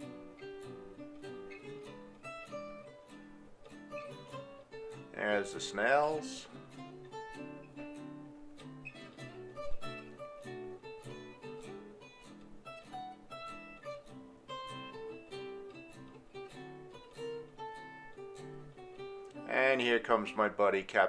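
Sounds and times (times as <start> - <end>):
acoustic guitar picking: 0.0 - 21.0.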